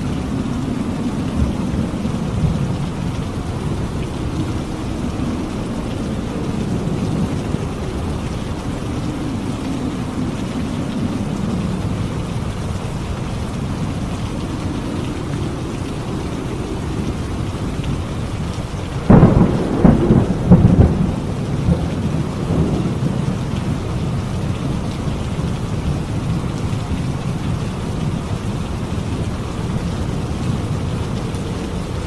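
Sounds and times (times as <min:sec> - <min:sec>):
heavy rain: 0:00.0 - 0:32.0
thunderclap with rumbles: 0:00.0 - 0:32.0.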